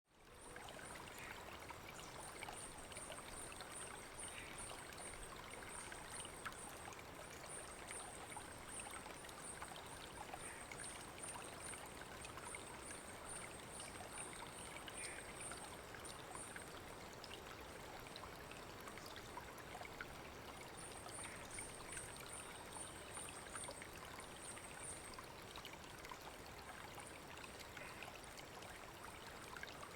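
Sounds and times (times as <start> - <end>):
creek trickling over stones: 0.1 - 29.9.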